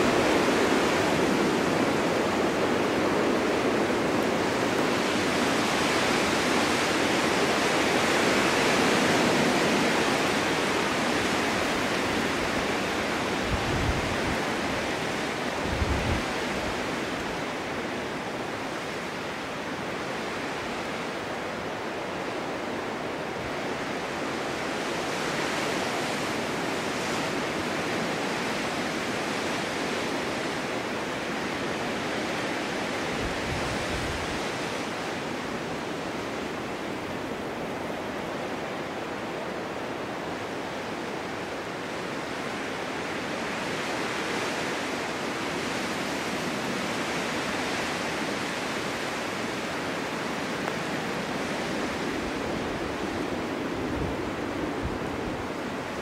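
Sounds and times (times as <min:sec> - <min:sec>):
wind rumble on microphone: 0:00.0 - 0:56.0
wind rushing through forest: 0:00.0 - 0:56.0.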